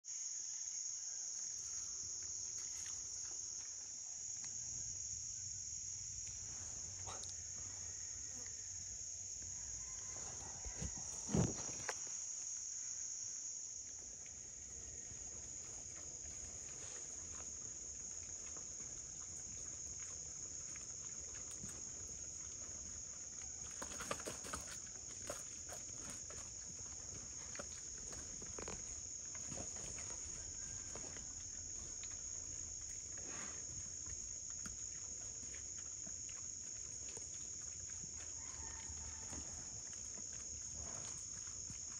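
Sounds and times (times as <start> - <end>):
insects chorus: 0.0 - 41.9.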